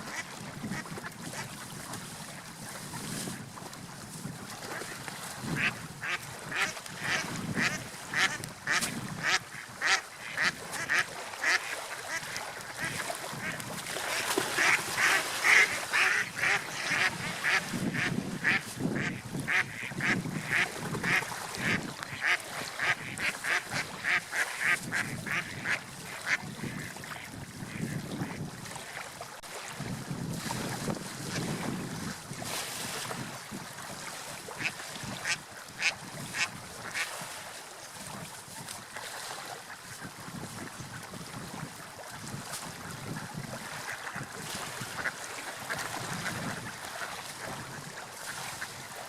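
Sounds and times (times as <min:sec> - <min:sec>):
surf: 0:00.0 - 0:49.0
wind: 0:00.0 - 0:49.0.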